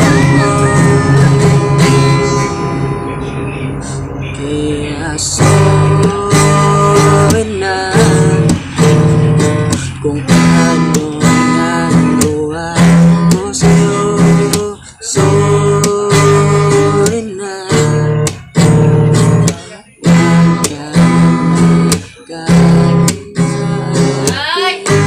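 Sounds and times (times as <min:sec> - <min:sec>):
acoustic guitar strummed chords: 0:00.0 - 0:25.0.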